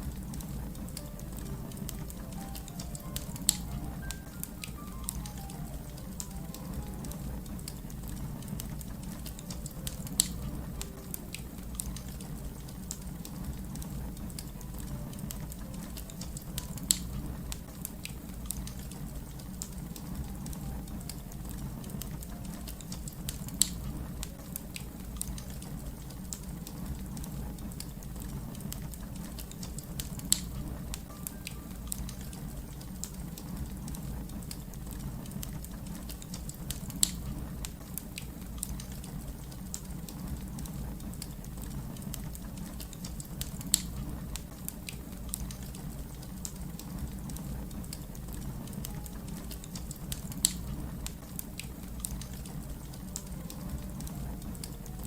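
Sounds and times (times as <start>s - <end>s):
wood fire rumbling and crackling: 0.0s - 55.0s.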